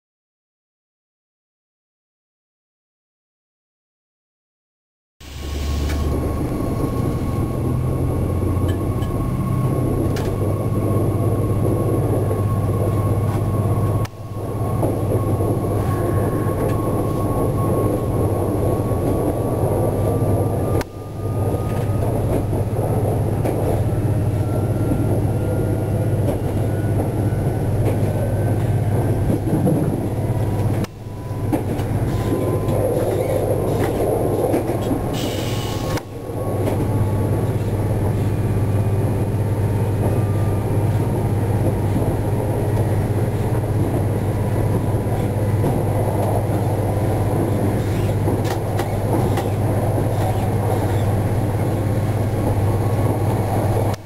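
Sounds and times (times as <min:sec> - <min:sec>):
diesel engine drone: 0:05.2 - 0:54.0
wheel and track rumble: 0:05.3 - 0:54.0.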